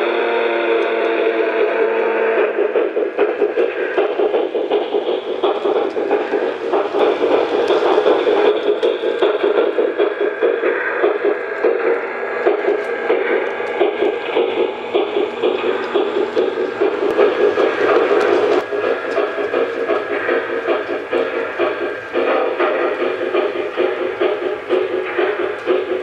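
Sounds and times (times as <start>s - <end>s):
model train running noise: 0.0s - 26.0s
model train steam chuff: 0.0s - 26.0s.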